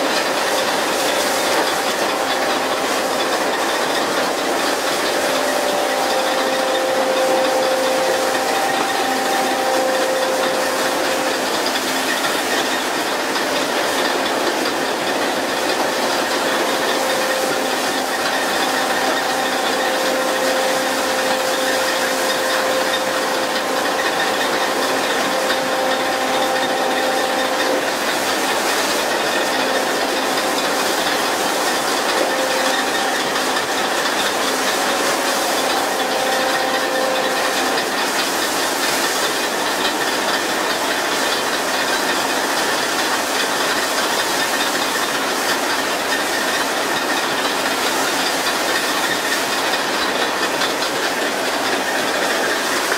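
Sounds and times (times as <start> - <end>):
mechanical hum: 0.0 - 52.9.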